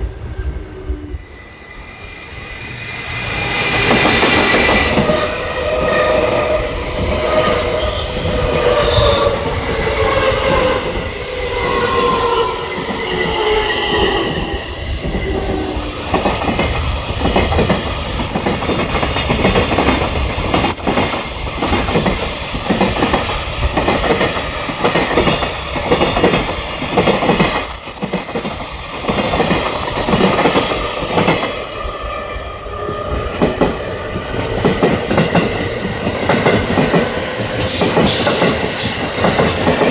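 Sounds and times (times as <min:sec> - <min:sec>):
train wheels clickety-clack: 0:03.0 - 0:32.0, 0:32.9 - 0:39.9.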